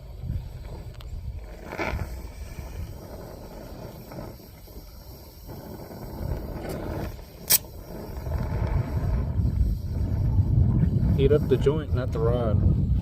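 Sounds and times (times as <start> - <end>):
torch flame roaring: 0.0 - 13.0.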